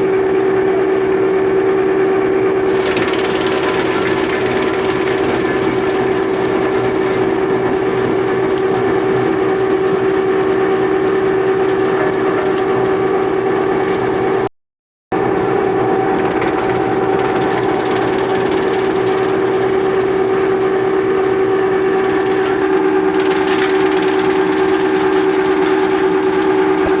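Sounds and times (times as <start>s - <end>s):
wood chipper humming: 0.0s - 14.5s, 15.2s - 27.0s.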